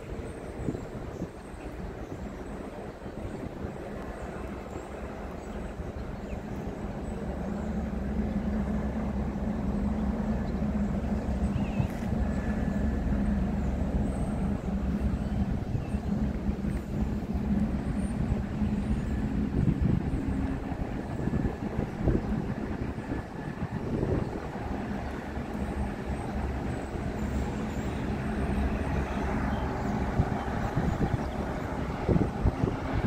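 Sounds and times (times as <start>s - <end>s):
ship engine hum: 0.0s - 33.0s.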